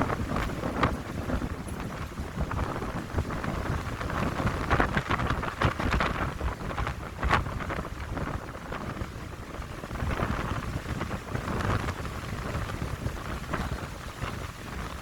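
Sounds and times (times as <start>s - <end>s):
wind rumble on microphone: 0.0s - 15.0s
wind rushing through pines: 0.0s - 15.0s.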